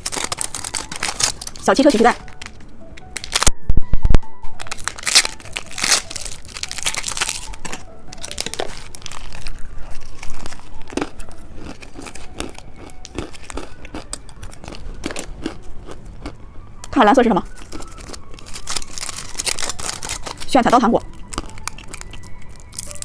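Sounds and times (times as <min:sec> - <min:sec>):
candy wrapper crinkling and tearing: 0:00.0 - 0:03.5, 0:04.5 - 0:23.0.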